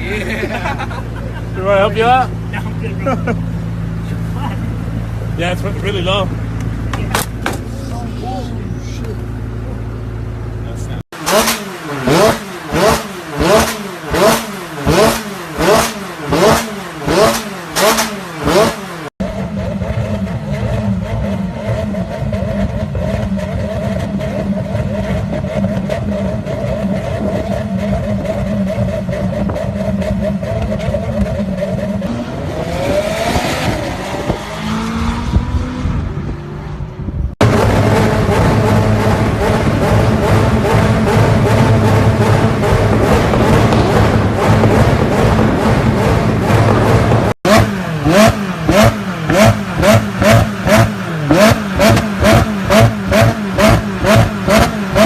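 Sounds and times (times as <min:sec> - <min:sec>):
car engine revving: 0:00.0 - 0:55.0
exhaust crackles: 0:00.0 - 0:55.0.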